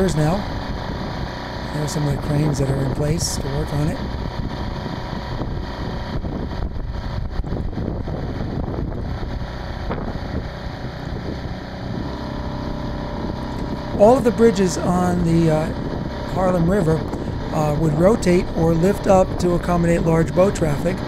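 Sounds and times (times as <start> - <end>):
outboard motor droning: 0.0 - 21.0
wind buffeting microphone: 0.0 - 21.0.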